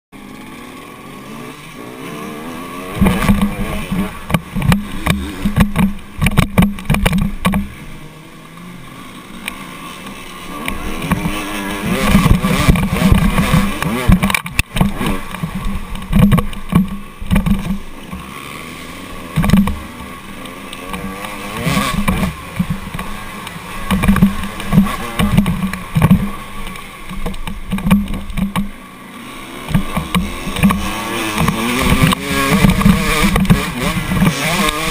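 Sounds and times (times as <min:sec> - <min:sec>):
motorbike engine revving: 0:00.2 - 0:34.9.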